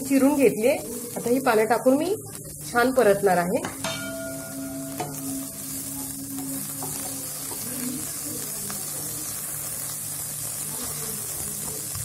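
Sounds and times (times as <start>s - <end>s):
oil sizzling in a pan: 0.0s - 12.0s
spatula stirring: 0.1s - 12.0s.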